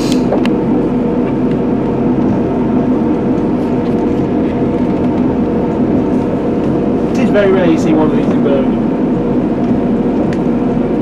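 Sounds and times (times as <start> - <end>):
train engine droning: 0.0 - 11.0.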